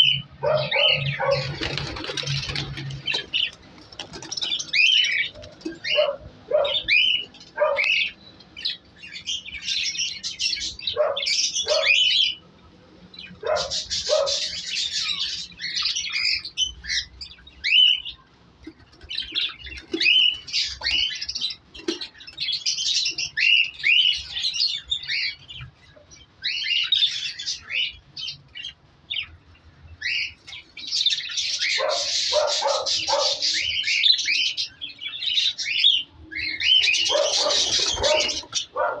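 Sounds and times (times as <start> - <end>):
budgerigars chirping and chattering: 0.0 - 12.4, 13.1 - 39.0.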